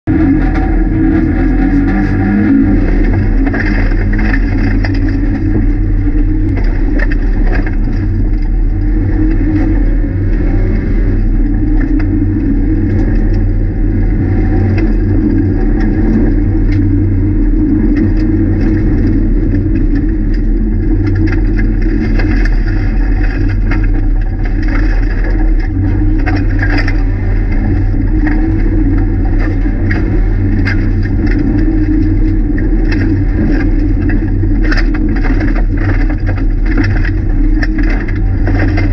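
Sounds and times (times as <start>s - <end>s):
rally car engine: 0.0s - 38.9s
gravel rattling against car underside: 0.1s - 38.9s.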